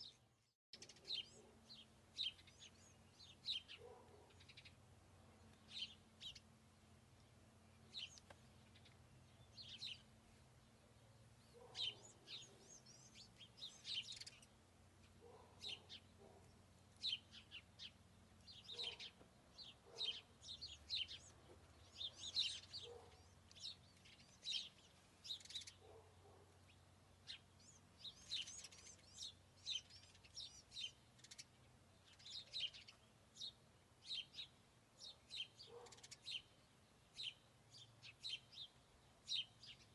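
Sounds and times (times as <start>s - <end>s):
faint songbirds chirping: 0.0s - 39.9s
low steady hum: 0.1s - 35.3s.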